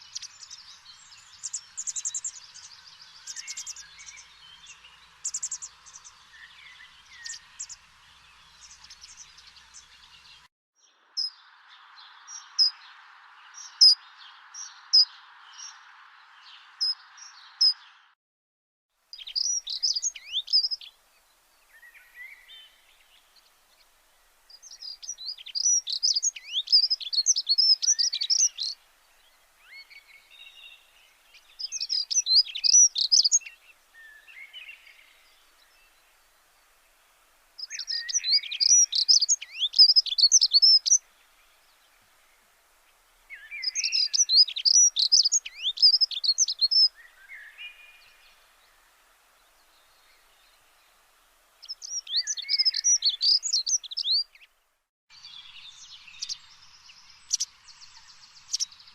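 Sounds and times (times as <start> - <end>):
faint hiss: 0.0 - 18.0, 18.9 - 58.9
small birds twittering: 0.0 - 18.1, 19.1 - 58.9.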